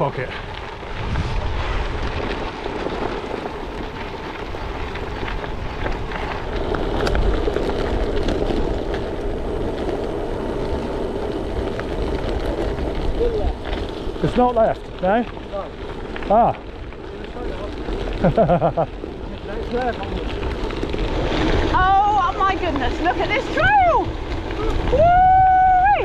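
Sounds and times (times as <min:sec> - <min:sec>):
bike tyres rolling on gravel: 0:00.0 - 0:26.0
stones ticking: 0:00.0 - 0:26.0
wind rumbling on microphone: 0:00.0 - 0:26.0.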